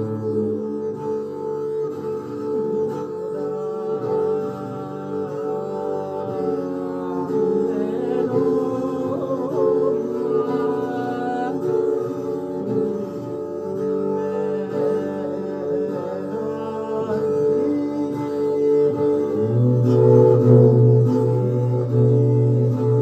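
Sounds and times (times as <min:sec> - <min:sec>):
bowed string instrument melody: 0:00.0 - 0:23.0.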